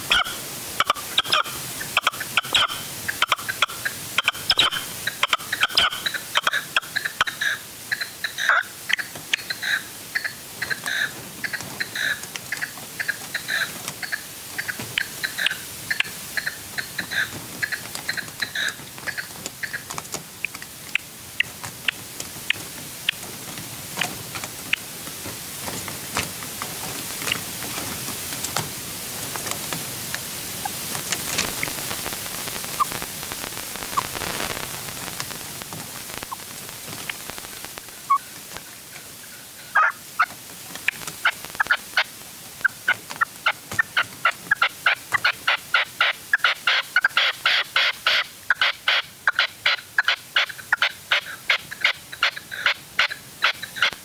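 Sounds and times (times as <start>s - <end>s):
partridge calling: 0.0s - 23.2s, 30.6s - 35.2s, 36.0s - 54.0s.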